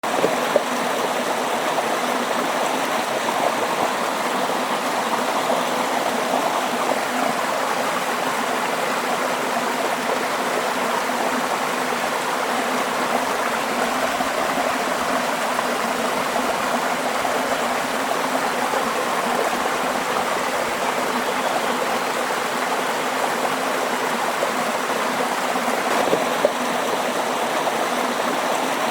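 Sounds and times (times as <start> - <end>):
running water flowing: 0.0 - 28.9.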